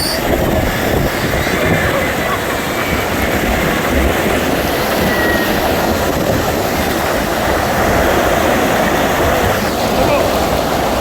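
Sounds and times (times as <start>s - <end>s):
storm wind and water rushing: 0.0s - 11.0s
wind buffeting microphone: 0.0s - 11.0s.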